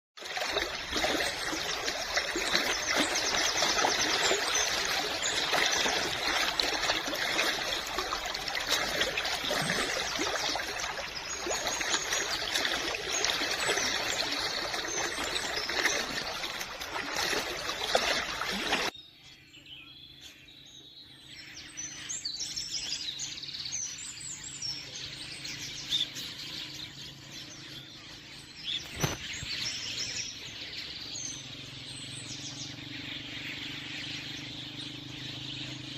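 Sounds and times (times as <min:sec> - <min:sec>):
water rushing and trickling: 0:00.2 - 0:19.0, 0:25.0 - 0:35.9
birds chirping: 0:00.2 - 0:35.9.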